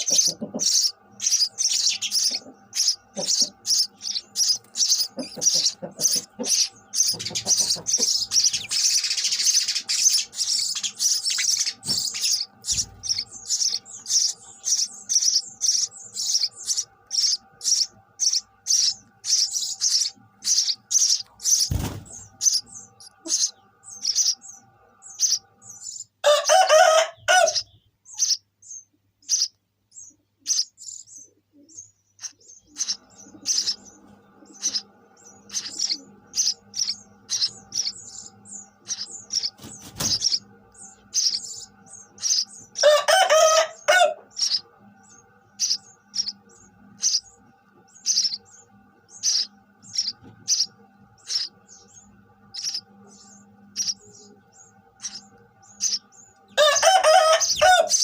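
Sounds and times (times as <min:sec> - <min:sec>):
sparrows chirping: 0:00.0 - 0:58.0.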